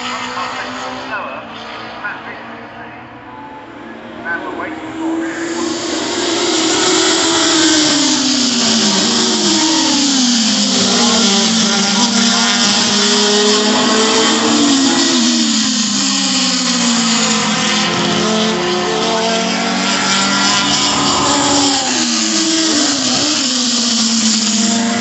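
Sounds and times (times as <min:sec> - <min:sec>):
racing cars passing: 0:00.0 - 0:25.0.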